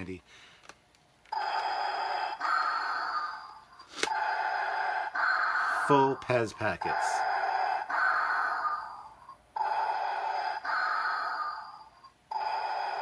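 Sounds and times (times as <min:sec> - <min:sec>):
electronic heavy breathing: 0:01.3 - 0:13.0.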